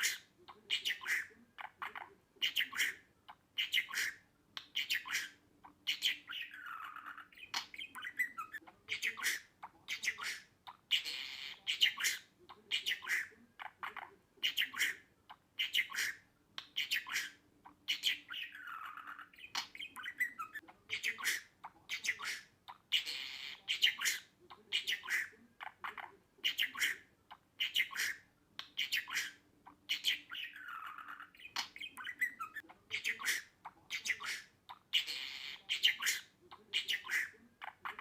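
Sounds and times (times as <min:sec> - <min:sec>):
budgerigar chirping and chattering: 0:00.0 - 0:38.0.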